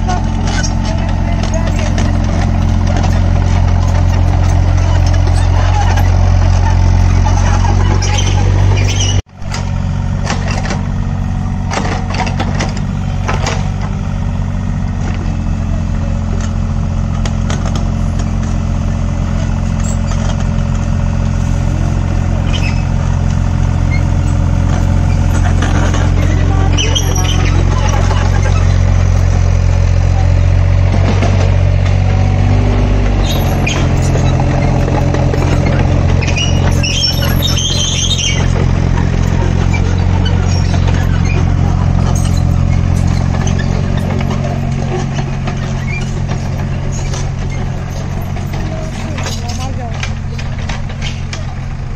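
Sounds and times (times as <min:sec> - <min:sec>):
diesel engine running: 0:00.0 - 0:51.9
excavator clanking: 0:00.0 - 0:51.9.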